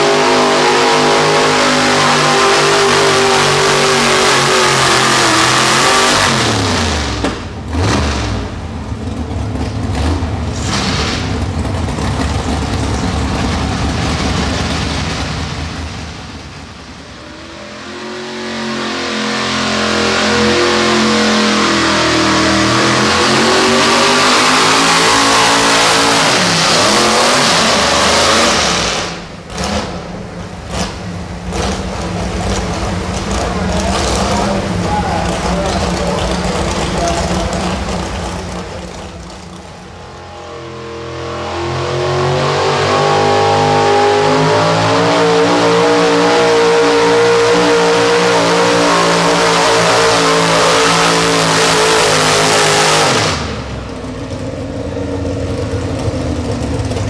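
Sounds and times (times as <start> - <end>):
truck engine revving under load: 0.0 - 57.0.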